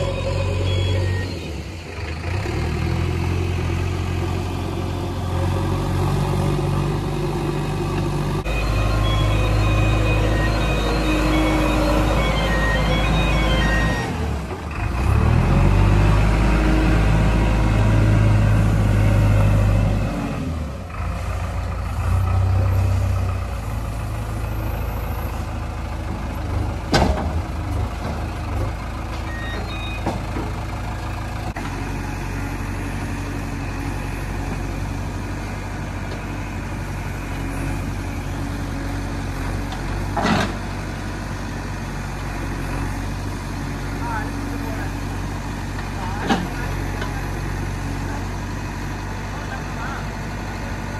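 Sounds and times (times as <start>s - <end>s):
diesel engine revving under load: 0.0s - 50.9s.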